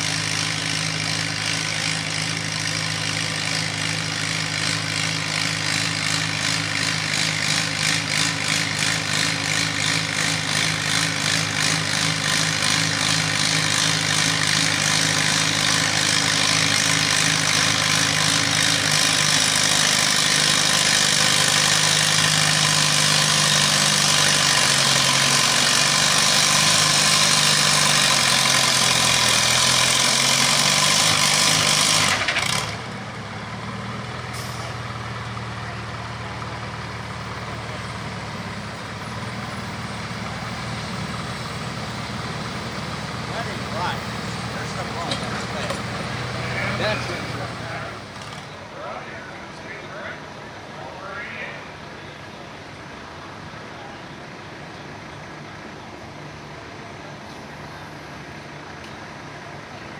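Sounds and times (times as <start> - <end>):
tractor engine idling: 0.0 - 59.9
tractor engine pulling hard: 0.0 - 59.9.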